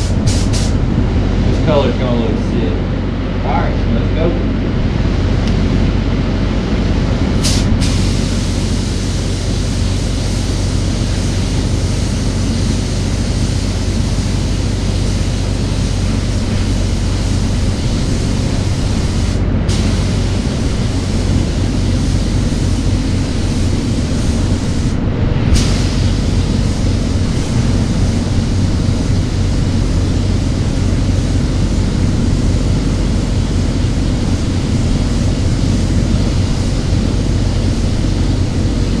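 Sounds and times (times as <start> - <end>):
paint spray gun hissing: 0.0 - 0.8, 7.4 - 25.0, 25.6 - 39.0
steady low hum: 0.0 - 39.0.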